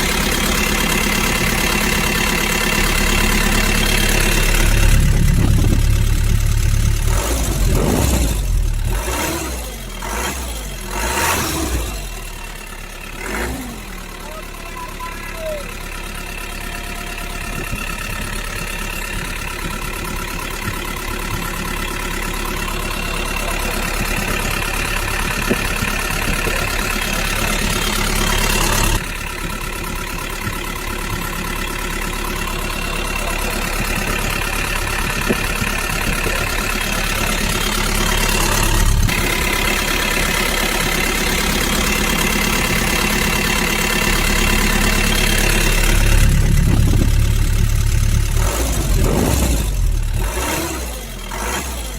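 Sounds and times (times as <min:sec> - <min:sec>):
small engine running: 0:00.0 - 0:51.9.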